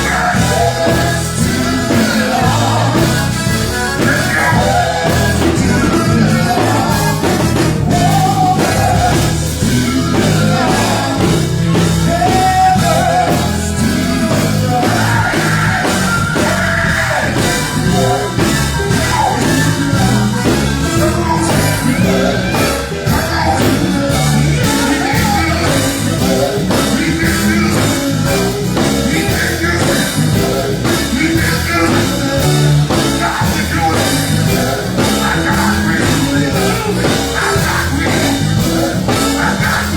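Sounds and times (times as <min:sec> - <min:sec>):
gospel group singing: 0:00.0 - 0:39.9
live band playing: 0:00.0 - 0:39.9.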